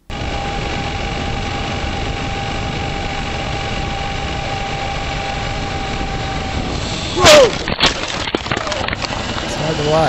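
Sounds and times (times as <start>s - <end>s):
engine hum: 0.0s - 10.0s
road and wind noise: 0.0s - 10.0s
thin steady whine: 0.0s - 10.0s.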